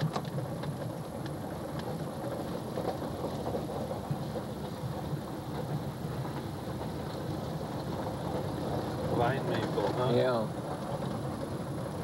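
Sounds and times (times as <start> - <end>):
engine and tyre rumble on gravel: 0.0 - 12.0.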